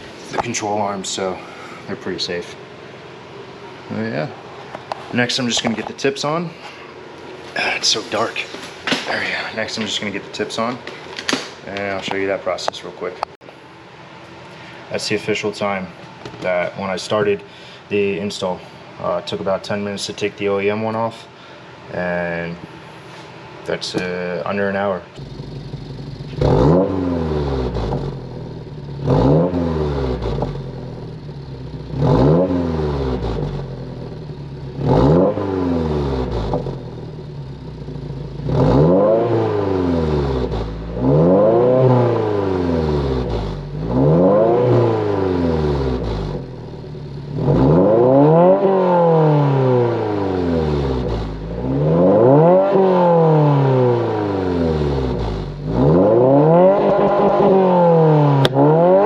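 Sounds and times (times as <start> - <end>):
car engine revving: 0.0 - 13.4, 23.8 - 59.0.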